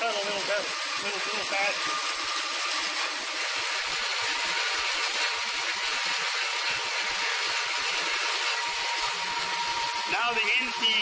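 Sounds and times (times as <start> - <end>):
bandsaw cutting steel hiss: 0.0 - 11.0.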